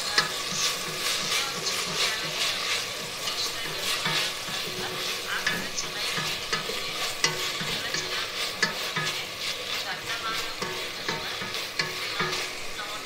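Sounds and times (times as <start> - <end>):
onions and tomato sizzling: 0.0 - 13.0
wooden spatula scraping pan: 0.0 - 13.0.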